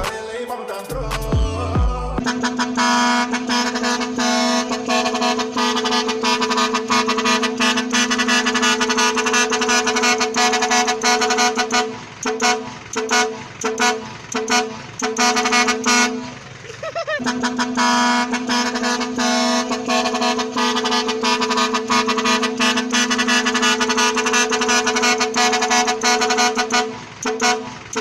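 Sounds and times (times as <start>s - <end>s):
truck air horn blowing: 2.2s - 16.5s, 17.1s - 28.0s.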